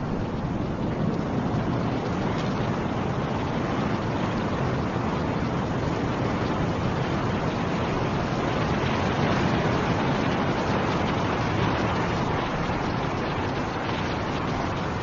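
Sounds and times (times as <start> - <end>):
snowstorm wind rushing: 0.0 - 15.0.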